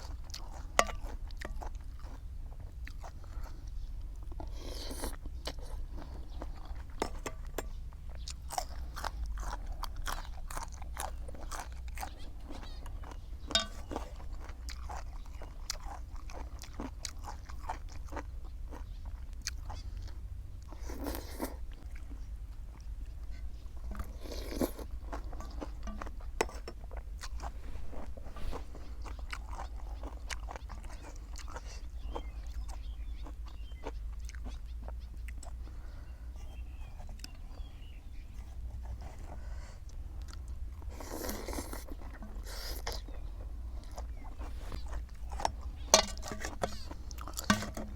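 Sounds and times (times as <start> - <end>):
crunchy food chewing: 0.0 - 47.9
wet chewing: 0.0 - 47.9.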